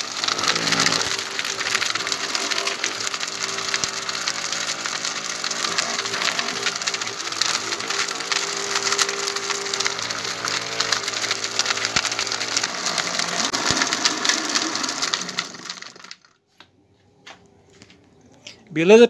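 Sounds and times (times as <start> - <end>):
blender motor whine: 0.0 - 16.3
bone pieces rattling in blender jar: 0.0 - 16.3.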